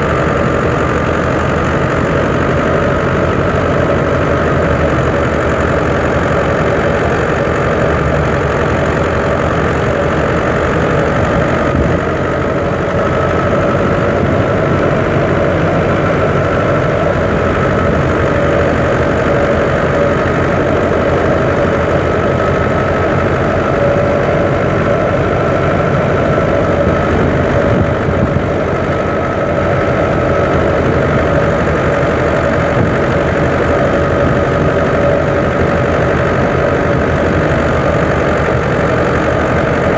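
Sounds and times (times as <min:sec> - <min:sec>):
tractor engine driving a thresher: 0:00.0 - 0:39.9.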